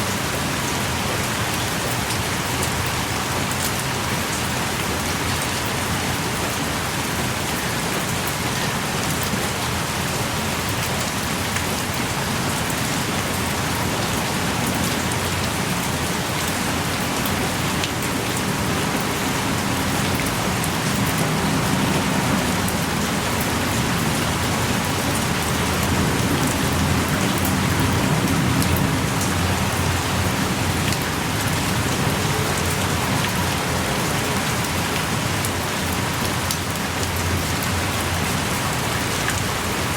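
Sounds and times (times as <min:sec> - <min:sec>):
heavy rain pouring: 0:00.0 - 0:39.9
raindrops pattering close by: 0:00.1 - 0:39.9.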